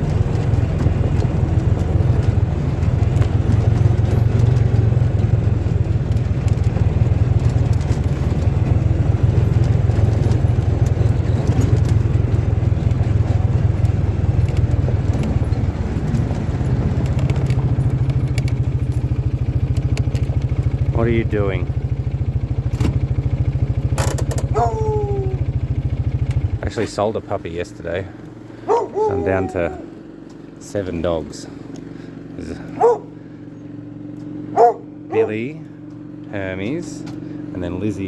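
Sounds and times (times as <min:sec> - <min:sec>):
engine running with pulsing note: 0:00.0 - 0:38.0.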